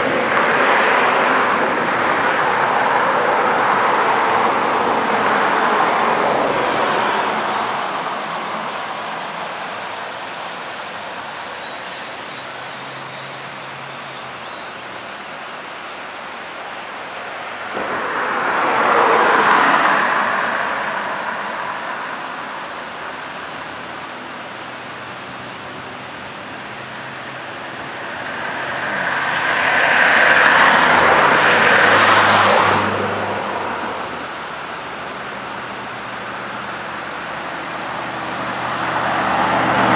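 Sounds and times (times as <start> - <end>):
cars passing by: 0.0 - 39.9.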